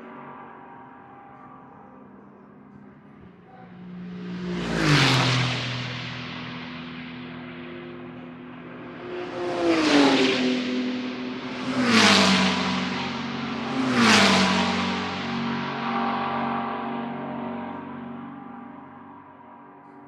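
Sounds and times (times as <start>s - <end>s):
distant engine drone: 0.0s - 20.0s
race cars passing at speed: 0.0s - 20.0s.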